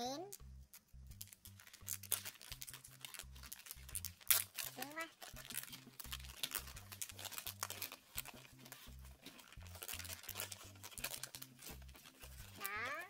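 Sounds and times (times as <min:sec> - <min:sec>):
latin-style background music: 0:00.0 - 0:13.0
plastic bag crinkling: 0:01.1 - 0:13.0.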